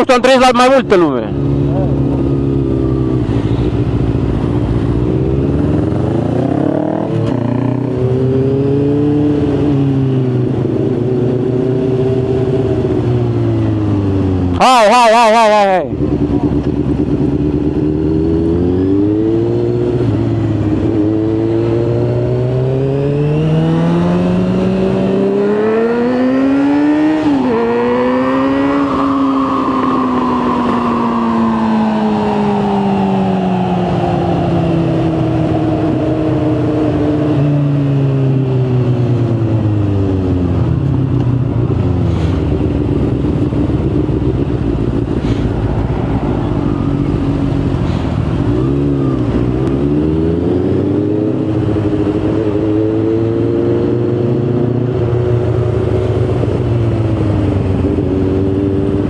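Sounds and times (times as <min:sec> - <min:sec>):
motorcycle engine accelerating: 0:00.6 - 0:14.6, 0:15.5 - 0:59.0.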